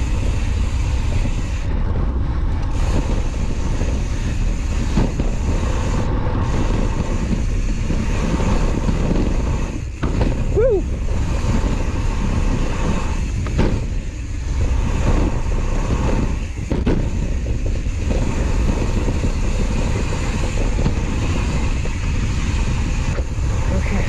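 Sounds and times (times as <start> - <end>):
bike tyres rolling on dirt trail: 0.0 - 24.0
wind rushing over microphone: 0.0 - 24.0
bike knocks and rattles: 2.5 - 23.5.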